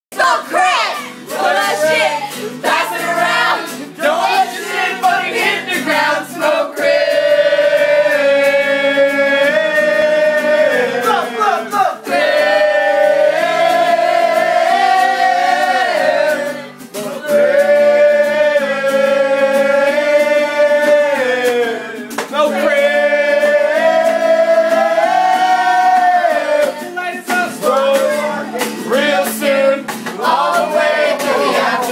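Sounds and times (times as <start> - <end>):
choir singing long notes: 0.2 - 27.0, 29.1 - 31.9.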